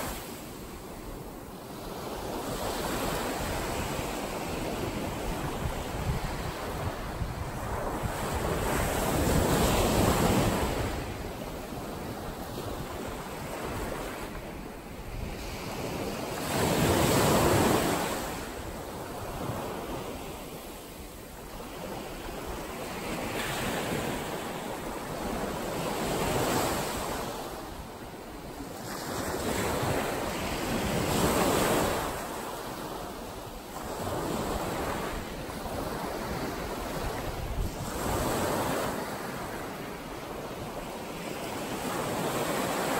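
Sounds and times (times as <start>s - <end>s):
waves breaking on beach: 0.0s - 42.9s.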